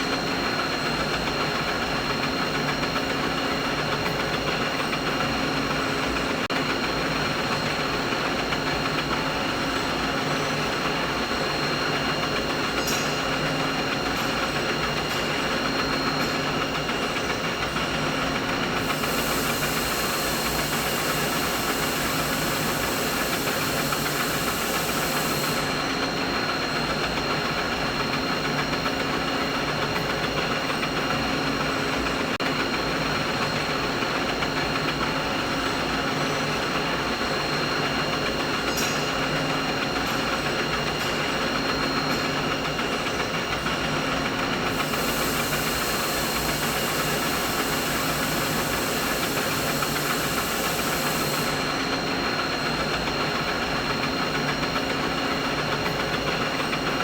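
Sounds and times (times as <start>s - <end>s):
steady machine hum: 0.0s - 29.8s, 39.4s - 57.0s.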